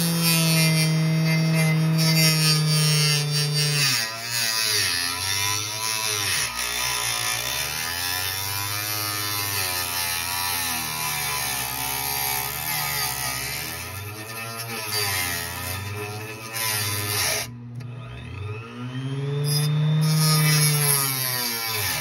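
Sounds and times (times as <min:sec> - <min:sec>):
electric saw cutting plastic: 0:00.0 - 0:22.0.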